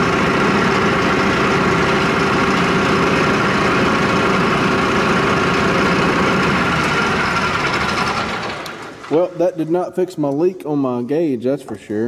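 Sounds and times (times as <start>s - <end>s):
tractor diesel engine whining: 0.0s - 10.2s.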